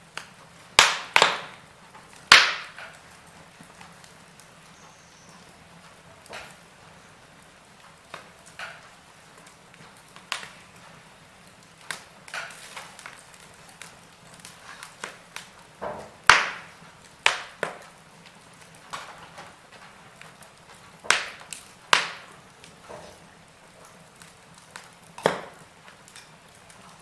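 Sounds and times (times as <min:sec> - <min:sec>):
faint fire hiss: 0:00.0 - 0:27.0
wood fire crackling and popping: 0:00.0 - 0:27.0.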